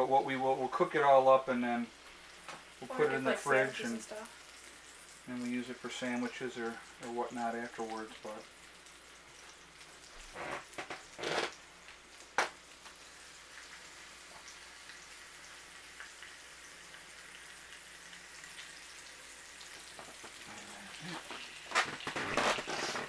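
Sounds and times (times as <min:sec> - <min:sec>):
bacon sizzling in a skillet: 0:00.0 - 0:23.0.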